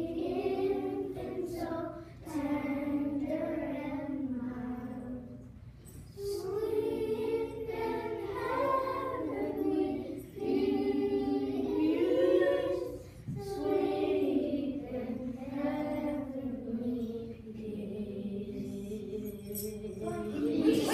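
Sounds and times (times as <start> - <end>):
young children singing: 0.0 - 20.9.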